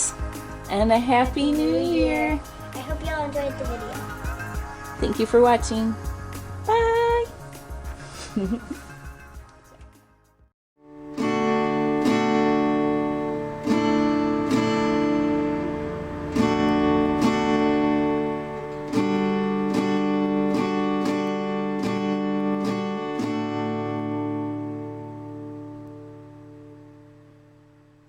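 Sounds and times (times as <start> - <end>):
acoustic guitar chords strummed: 0.0 - 7.9, 10.8 - 28.0.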